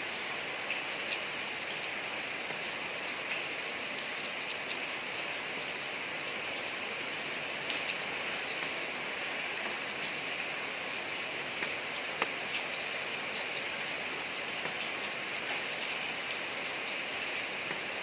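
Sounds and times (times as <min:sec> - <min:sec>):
rain falling on street: 0:00.0 - 0:18.0.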